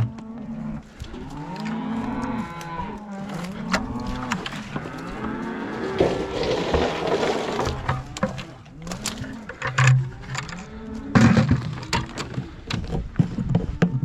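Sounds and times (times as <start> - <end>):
cattle mooing: 0.0 - 12.8, 13.5 - 14.0.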